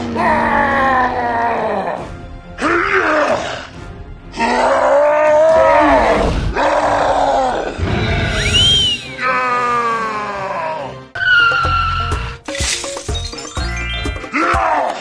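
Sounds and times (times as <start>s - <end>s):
cartoon soundtrack music: 0.0s - 15.0s.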